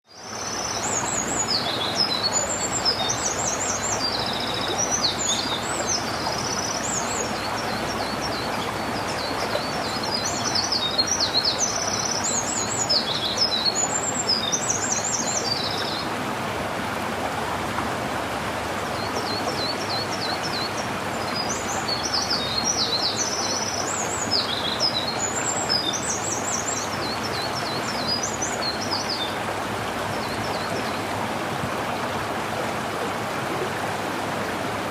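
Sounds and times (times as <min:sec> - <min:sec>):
stream rushing: 0:00.1 - 0:34.9.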